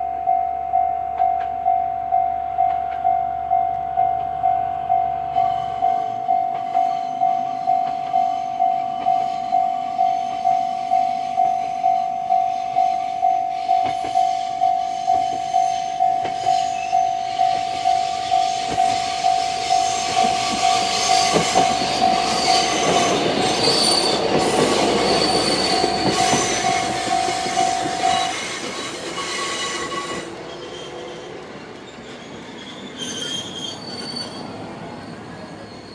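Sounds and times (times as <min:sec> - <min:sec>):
level crossing warning bell: 0:00.0 - 0:30.3
railcar wheel rumble and squeal: 0:00.0 - 0:35.9.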